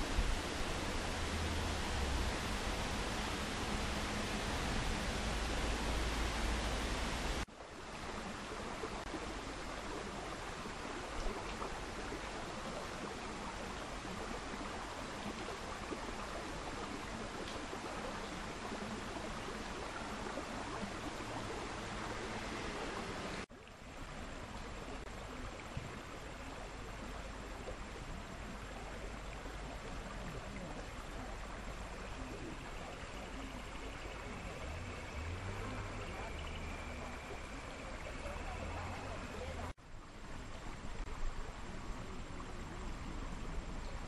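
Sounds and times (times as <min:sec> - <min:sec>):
shallow rocky stream flowing: 0:00.0 - 0:44.0.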